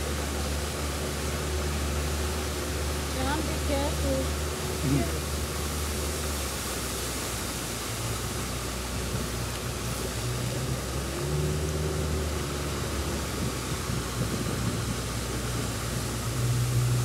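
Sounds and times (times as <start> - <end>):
outboard motor running: 0.0 - 17.0
water rushing hiss: 0.0 - 17.0.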